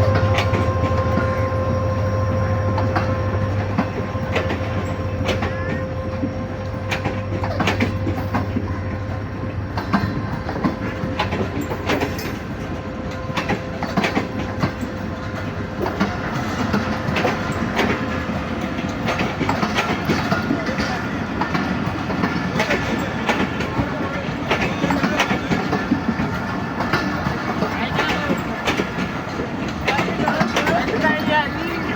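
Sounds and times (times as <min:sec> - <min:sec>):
train carriages rumbling on track: 0:00.0 - 0:31.9
wheels clicking and clanking: 0:02.6 - 0:31.9.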